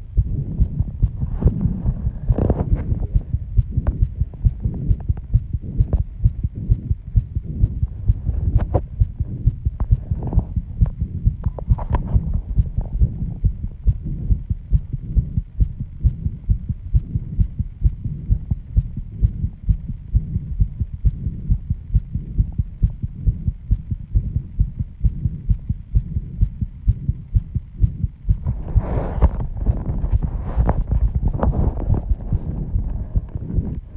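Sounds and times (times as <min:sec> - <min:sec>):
fast heartbeat thumps: 0:00.0 - 0:33.9.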